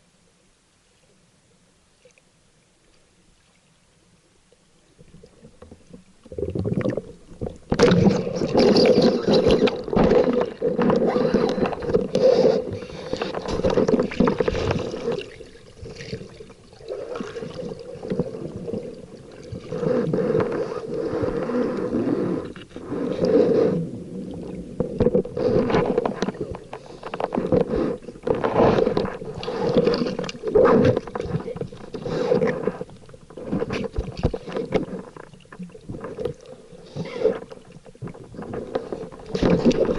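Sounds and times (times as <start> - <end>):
water rushing and sloshing: 3.2 - 39.9.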